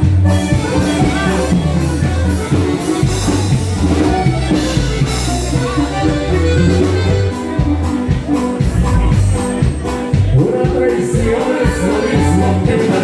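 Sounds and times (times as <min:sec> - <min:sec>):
latin band music: 0:00.0 - 0:13.0
steady bass line: 0:00.0 - 0:13.0.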